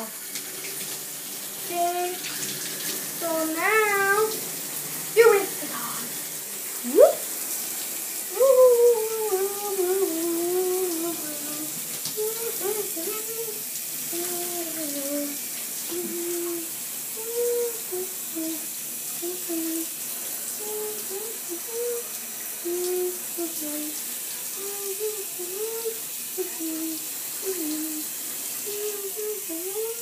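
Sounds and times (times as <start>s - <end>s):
tap water running into bathtub: 0.0s - 30.0s.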